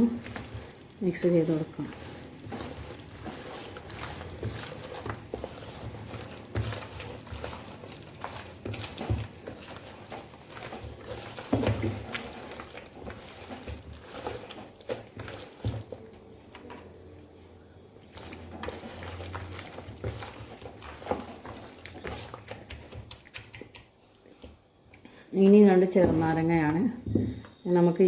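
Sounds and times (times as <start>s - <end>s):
wet mixing in a bowl: 0.0s - 28.0s.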